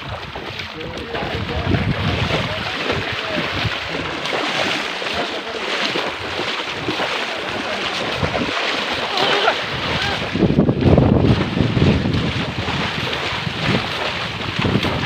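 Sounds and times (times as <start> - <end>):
shallow river water splashing: 0.0 - 15.0.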